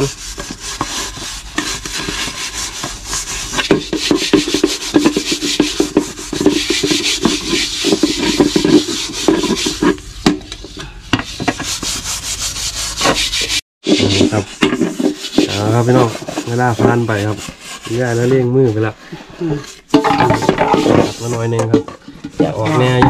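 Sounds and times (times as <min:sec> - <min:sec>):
scouring pad scrubbing a pot: 0:00.0 - 0:23.0.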